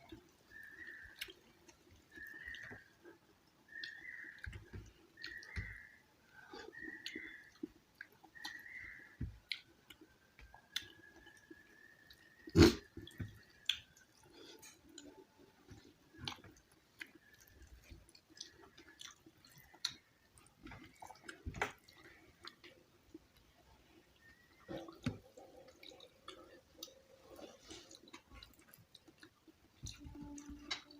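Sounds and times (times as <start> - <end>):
chewing and wet mouth smacks: 0.0 - 3.1, 3.7 - 30.9.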